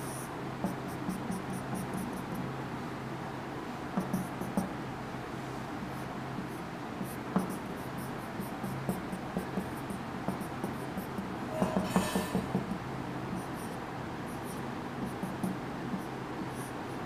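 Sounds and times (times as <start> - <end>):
marker scratching on whiteboard: 0.0 - 2.3, 4.0 - 4.7, 5.8 - 17.0.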